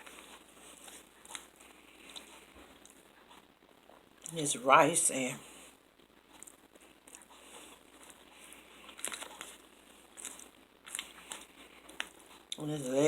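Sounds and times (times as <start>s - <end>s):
crisp chewing: 0.0s - 4.3s, 6.0s - 12.6s
light crinkling: 0.0s - 4.4s, 5.9s - 12.7s.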